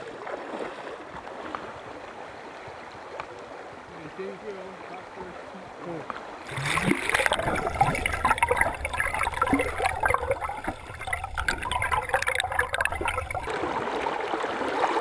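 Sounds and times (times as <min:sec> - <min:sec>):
river water gurgling and bubbling: 0:00.0 - 0:15.0
stream water rushing: 0:00.0 - 0:15.0.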